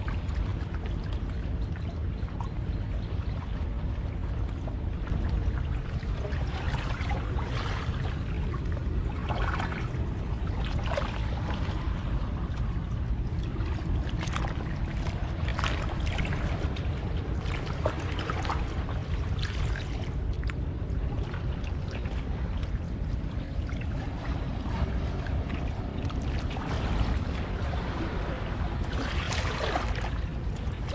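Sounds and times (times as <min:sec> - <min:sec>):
wind: 0:00.0 - 0:30.9
surf: 0:04.1 - 0:30.9.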